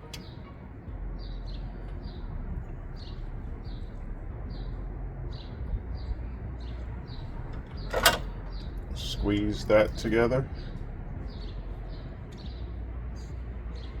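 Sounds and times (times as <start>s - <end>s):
low background rumble: 0.0s - 14.0s
bird chirping: 1.1s - 14.0s.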